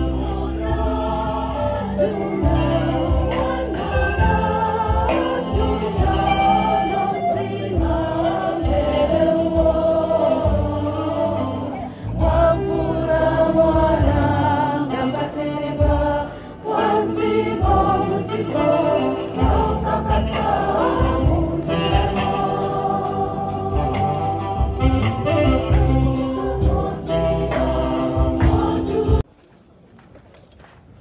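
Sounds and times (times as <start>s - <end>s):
choir singing a hymn: 0.0s - 29.3s.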